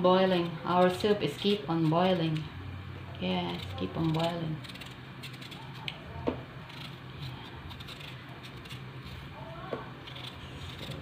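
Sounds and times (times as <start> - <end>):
steady low hum: 0.0 - 11.0
knife paring a potato: 0.1 - 2.5, 3.2 - 11.0.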